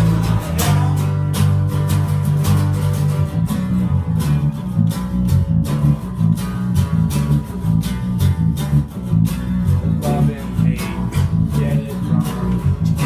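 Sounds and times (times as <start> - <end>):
bass guitar: 0.0 - 13.0
electric guitar: 0.0 - 13.0.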